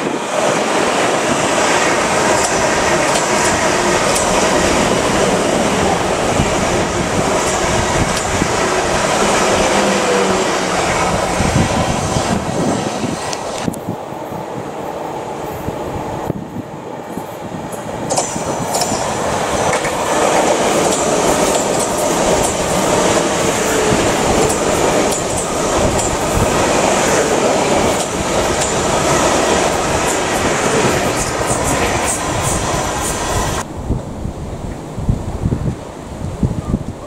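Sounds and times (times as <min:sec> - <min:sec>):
train wheels clicking: 0:00.0 - 0:13.9, 0:17.0 - 0:33.7
electric train passing: 0:00.0 - 0:36.4.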